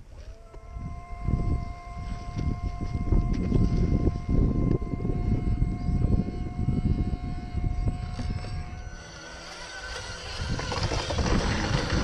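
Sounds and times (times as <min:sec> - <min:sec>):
faint steady high whine: 0:00.0 - 0:12.0
wind rumbling on microphone: 0:00.0 - 0:12.0.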